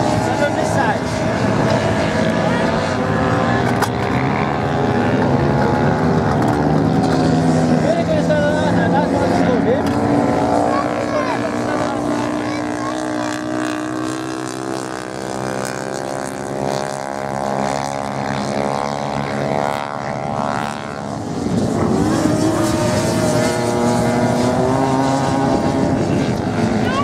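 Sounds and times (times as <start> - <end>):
louder engine wavering pitch: 0.0 - 27.0
motorcycle engines running: 0.0 - 27.0.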